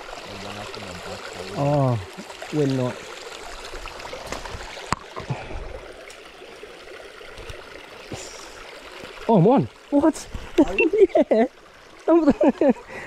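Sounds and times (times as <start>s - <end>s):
creek water running over stones: 0.0s - 13.0s.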